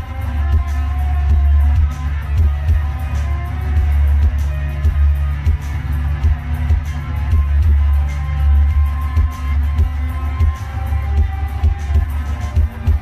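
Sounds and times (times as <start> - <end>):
low bass drone: 0.0 - 13.0.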